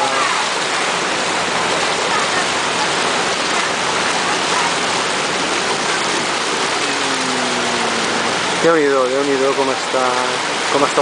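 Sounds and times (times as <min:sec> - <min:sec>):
floodwater rushing and churning: 0:00.0 - 0:11.0.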